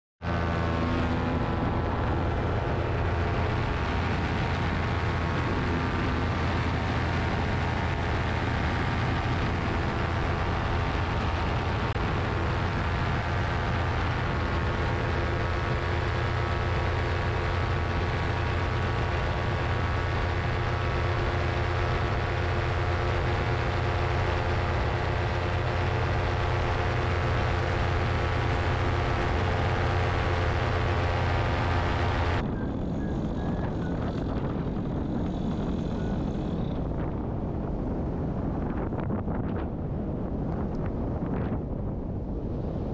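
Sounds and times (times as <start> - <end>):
paramotor engine droning: 0.2 - 41.6.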